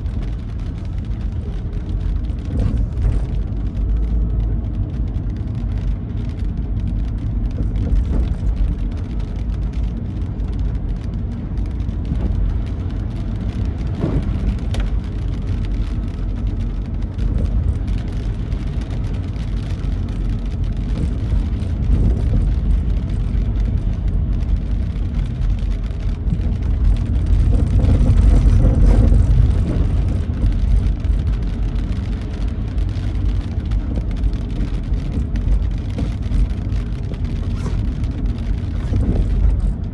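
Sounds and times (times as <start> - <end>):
car driving on wet road: 0.0 - 39.9
rain: 0.0 - 39.9.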